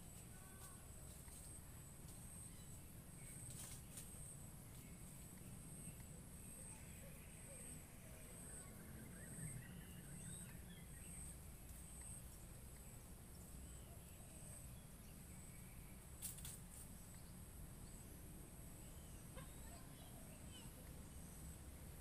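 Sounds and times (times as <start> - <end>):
faint bird chirps: 0.2 - 21.7.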